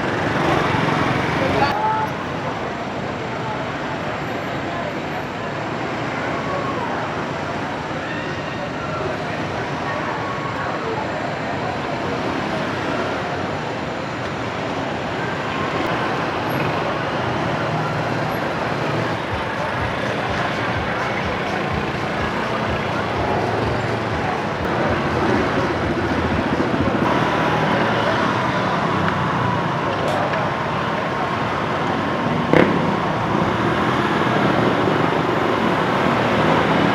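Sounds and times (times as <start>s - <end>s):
motorbike engines passing: 0.0s - 36.9s
road noise: 0.0s - 36.9s.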